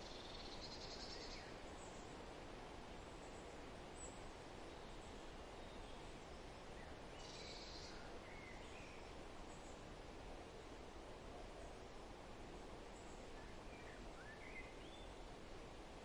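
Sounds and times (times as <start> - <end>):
soft background hiss: 0.0 - 16.0.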